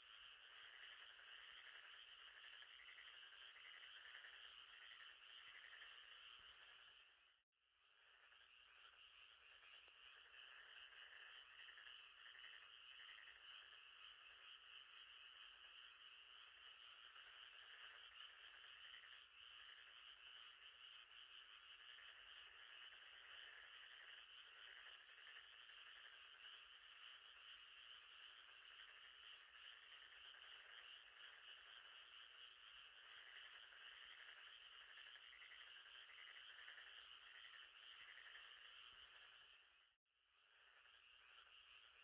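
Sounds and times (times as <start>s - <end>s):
frogs chorus: 0.0s - 42.0s.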